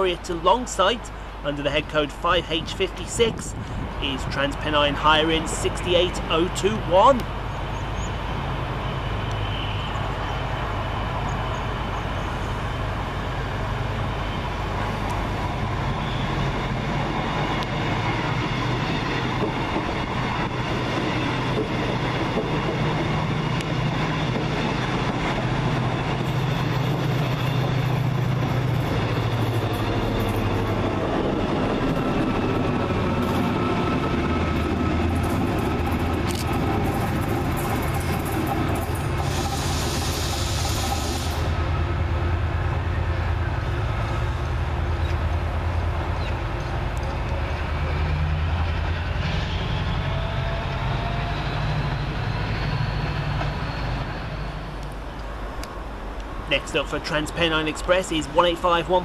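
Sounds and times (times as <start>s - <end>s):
train wheel and rail noise: 0.0s - 59.0s.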